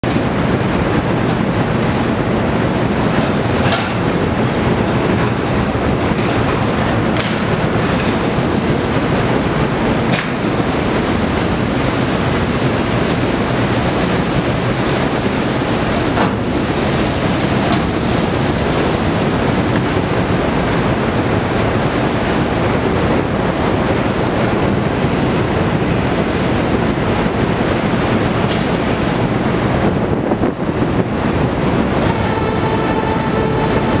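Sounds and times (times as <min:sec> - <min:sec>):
machinery and sea noise: 0:00.0 - 0:34.0.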